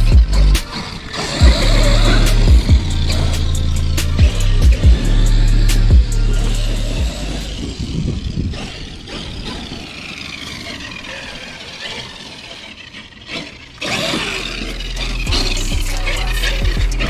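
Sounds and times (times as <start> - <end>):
drivetrain and tyre noise: 0.0 - 17.0
electric motor whining: 0.0 - 17.0.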